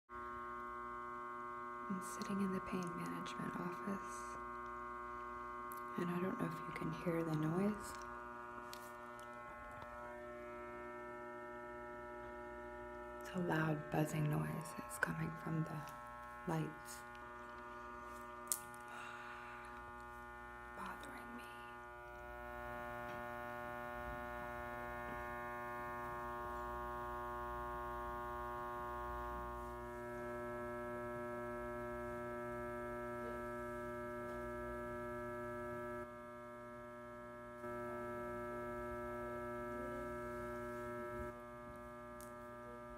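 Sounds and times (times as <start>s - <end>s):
fluorescent lights buzzing: 0.2s - 42.9s.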